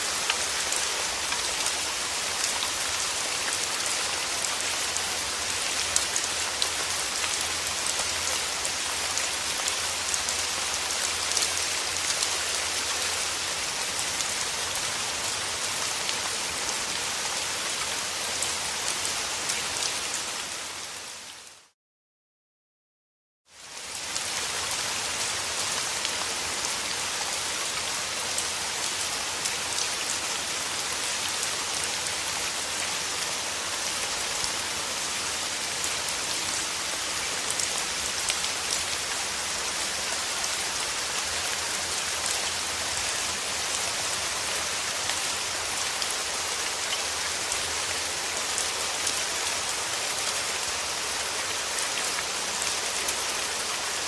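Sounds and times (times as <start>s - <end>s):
steady rain falling: 0.0s - 21.8s, 23.5s - 54.0s.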